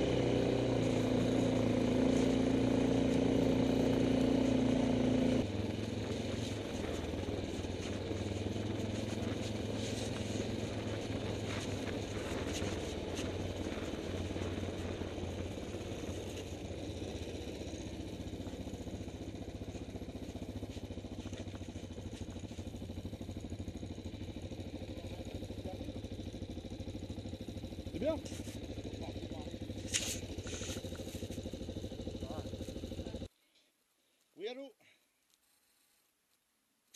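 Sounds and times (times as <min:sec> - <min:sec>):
quad bike engine: 0:00.0 - 0:33.3.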